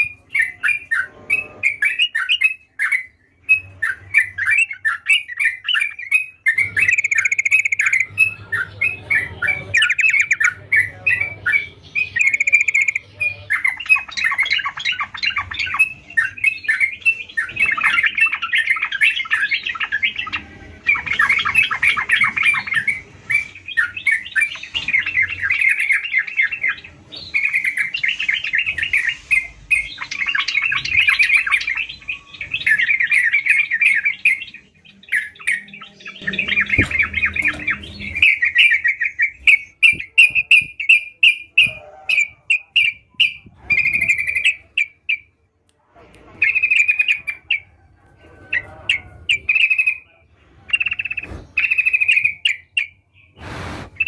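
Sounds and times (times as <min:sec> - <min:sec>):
short evenly spaced bird notes: 0:00.0 - 0:45.4
bird singing chattering phrases: 0:00.0 - 0:45.5, 0:46.3 - 0:54.0.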